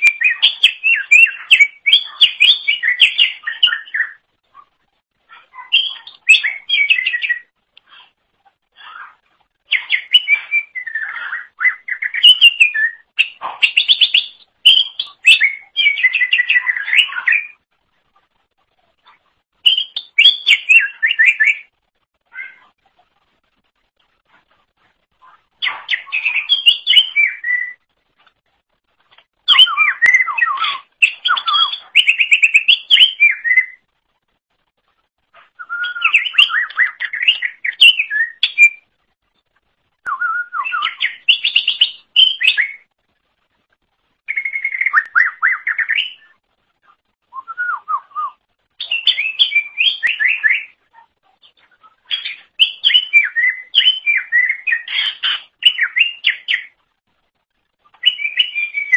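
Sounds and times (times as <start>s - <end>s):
bird warbling and trilling: 0.0s - 8.2s, 8.8s - 17.6s, 18.2s - 21.7s, 25.2s - 27.9s, 29.4s - 33.8s, 35.3s - 38.9s, 40.1s - 42.9s, 44.3s - 56.8s, 57.9s - 58.9s.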